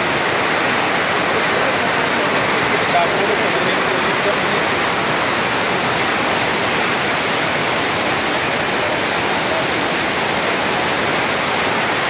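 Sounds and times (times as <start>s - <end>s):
river rapids roaring over boulders: 0.0s - 12.0s.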